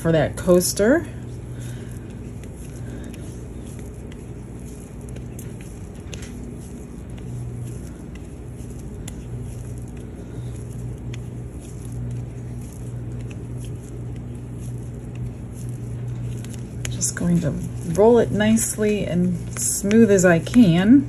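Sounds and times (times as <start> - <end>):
motor humming: 0.0 - 21.0
putty being kneaded by hand: 1.2 - 20.9.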